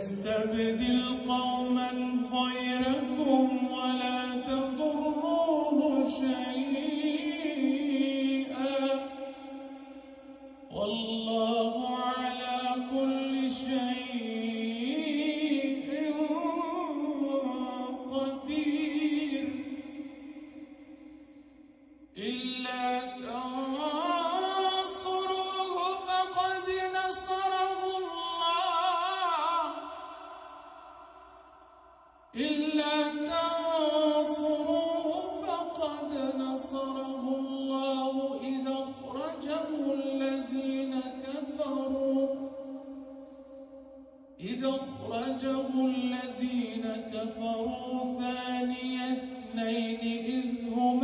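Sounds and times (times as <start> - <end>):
man chanting into microphone: 0.0 - 20.3, 22.1 - 31.2, 32.3 - 43.0, 44.4 - 51.0.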